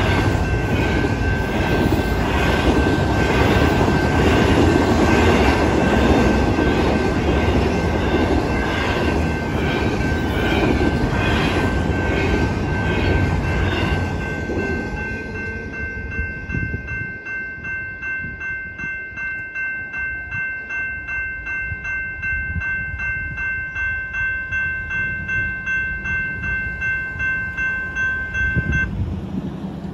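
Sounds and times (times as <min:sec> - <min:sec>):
electronic crossing bell ringing: 0:00.0 - 0:29.0
freight train rumbling on rails: 0:00.0 - 0:29.9.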